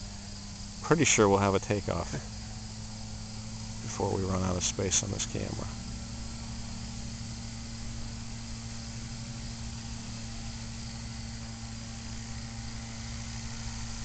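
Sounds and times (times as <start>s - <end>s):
high hiss: 0.0s - 14.0s
small motor droning: 0.0s - 14.0s.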